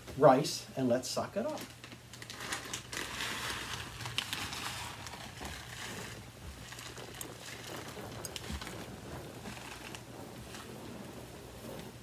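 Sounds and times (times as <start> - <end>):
rice grains pattering on carpet: 1.4 - 12.0.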